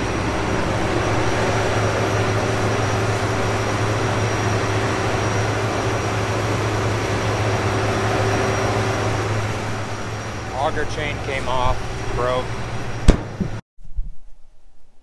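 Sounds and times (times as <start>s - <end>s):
diesel engine droning: 0.0s - 13.6s.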